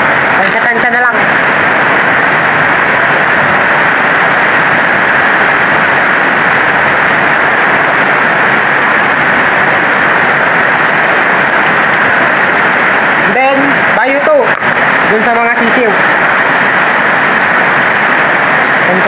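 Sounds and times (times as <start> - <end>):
heavy rain on a metal roof: 0.0 - 19.0.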